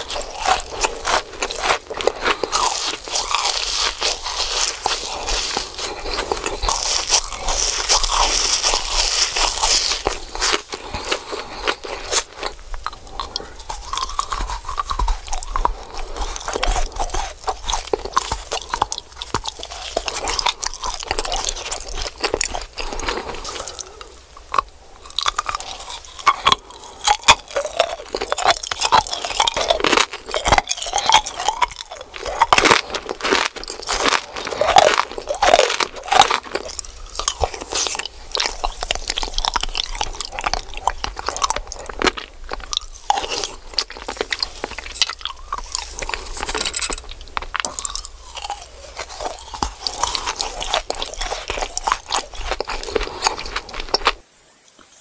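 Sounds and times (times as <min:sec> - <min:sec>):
crunching hard candy: 0:00.0 - 0:54.2
chewing: 0:00.0 - 0:55.0.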